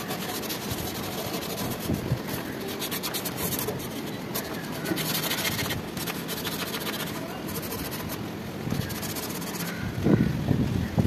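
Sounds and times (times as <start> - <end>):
hands scraping on pipes: 0.0 - 9.8
steady background noise: 0.0 - 11.0.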